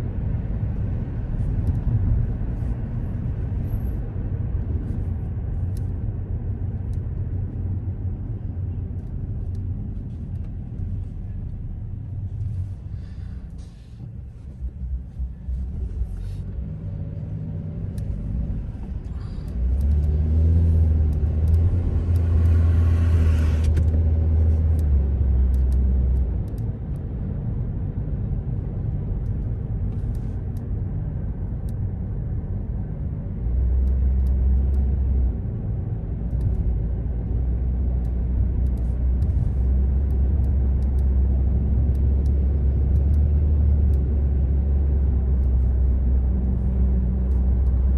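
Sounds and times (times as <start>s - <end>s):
road and engine drone: 0.0s - 47.9s.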